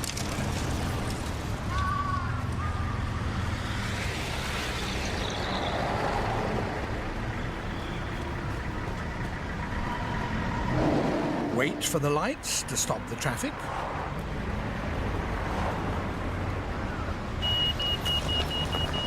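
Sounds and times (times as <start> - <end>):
car and truck engines passing: 0.0 - 19.0.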